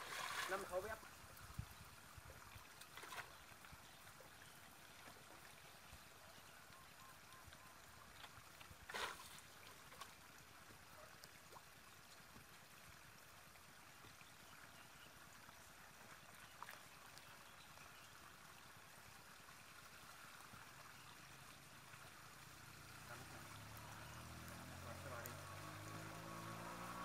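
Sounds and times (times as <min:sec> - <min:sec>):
faint outdoor ambience: 0:00.0 - 0:27.0.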